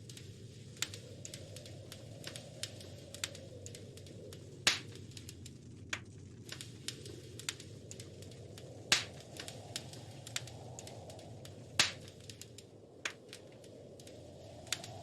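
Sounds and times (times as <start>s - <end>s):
wood fire crackling: 0.0s - 15.0s
loud fire pops: 0.8s - 15.0s.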